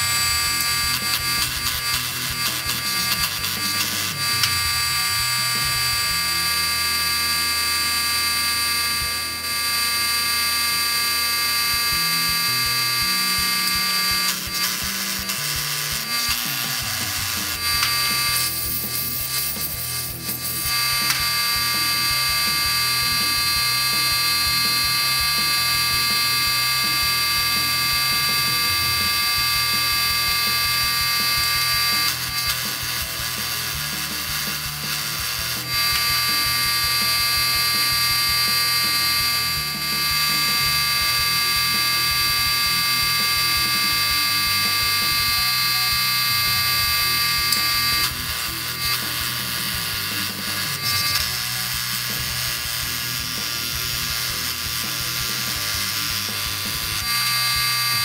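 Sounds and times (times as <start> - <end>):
electric grinder whining: 0.0 - 58.0.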